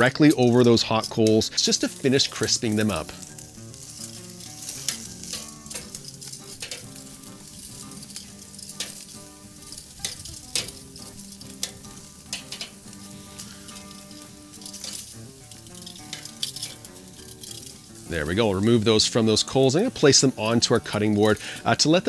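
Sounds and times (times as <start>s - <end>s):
bacon sizzling and crackling: 0.0s - 22.0s.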